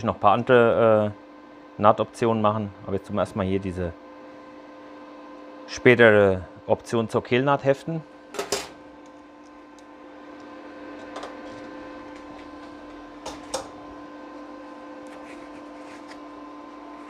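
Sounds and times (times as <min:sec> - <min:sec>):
welding machine humming: 0:00.0 - 0:17.0.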